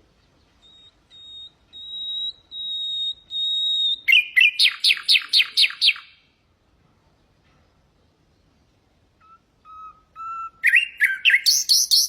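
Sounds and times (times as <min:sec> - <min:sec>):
nightingale singing: 0:00.0 - 0:06.5, 0:07.9 - 0:12.0.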